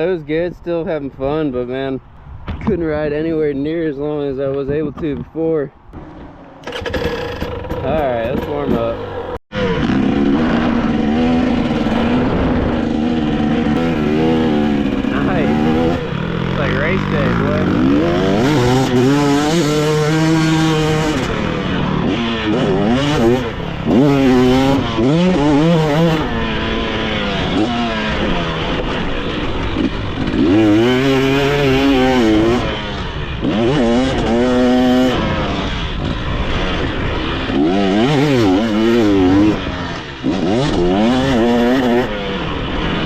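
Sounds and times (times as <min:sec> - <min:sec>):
dirt bike engine revving: 0:05.9 - 0:43.0.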